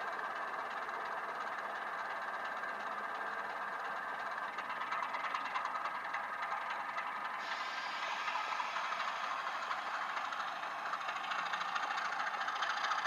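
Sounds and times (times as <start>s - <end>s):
model train whirring: 0.0s - 13.0s.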